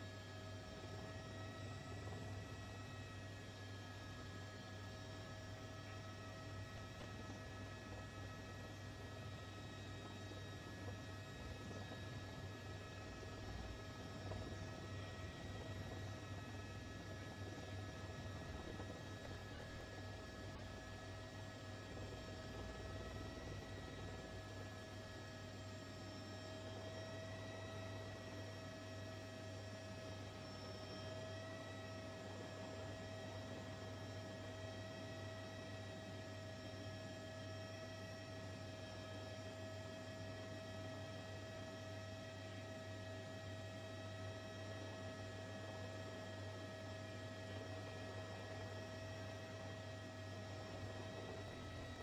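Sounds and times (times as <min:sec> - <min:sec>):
faint electrical hum: 0:00.0 - 0:52.0.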